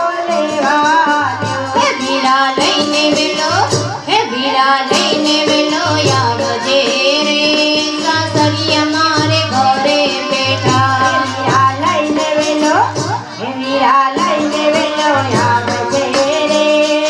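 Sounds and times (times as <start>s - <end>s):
person singing folk song: 0.0s - 17.0s
rhythmic percussion beat: 0.0s - 17.0s.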